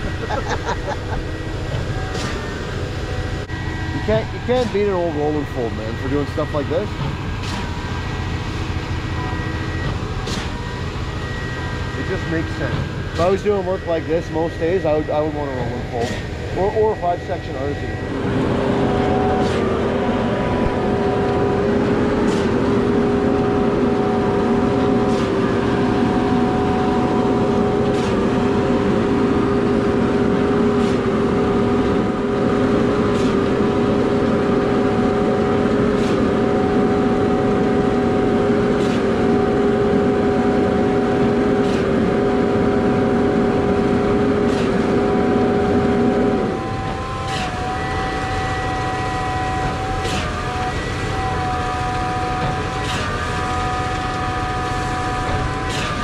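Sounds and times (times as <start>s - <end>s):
concrete pump engine whine: 0.0s - 56.0s.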